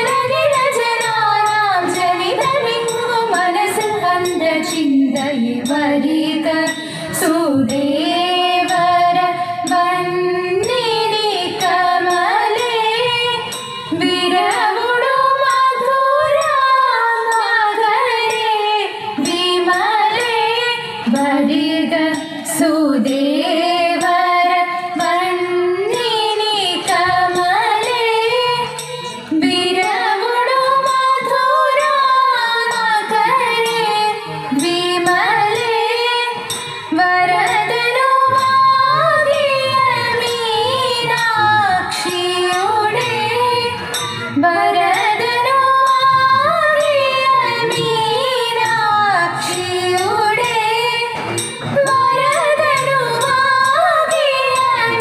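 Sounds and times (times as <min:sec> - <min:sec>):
women singing ornamented melody: 0:00.0 - 0:55.0.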